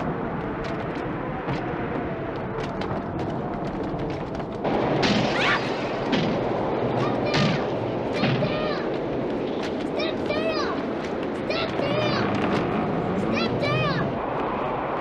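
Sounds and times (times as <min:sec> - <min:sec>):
tornado wind blowing hard: 0:00.0 - 0:15.0.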